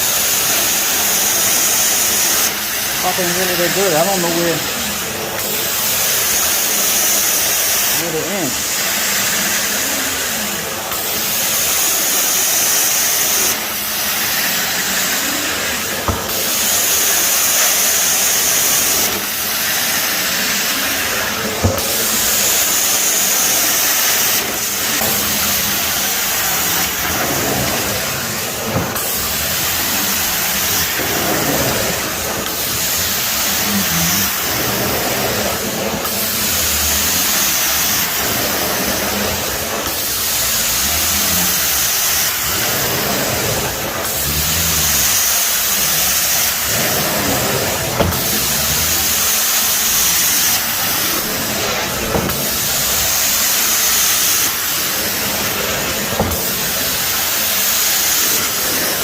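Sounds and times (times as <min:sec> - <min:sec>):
carpet cleaning wand suction hiss: 0:00.0 - 0:59.0.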